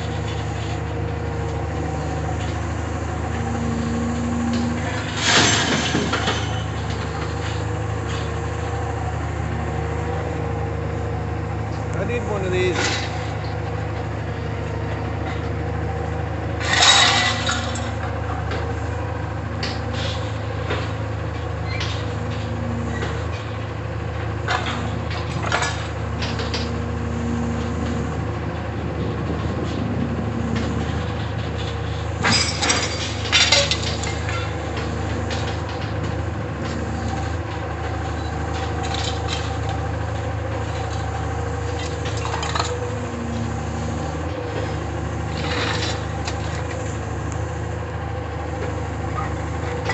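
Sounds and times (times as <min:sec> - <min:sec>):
scrap metal clanking and crashing: 0:00.0 - 0:08.7, 0:12.0 - 0:14.1, 0:16.6 - 0:18.7, 0:19.6 - 0:26.8, 0:27.6 - 0:46.9, 0:49.0 - 0:49.9
diesel engine running: 0:00.0 - 0:49.9.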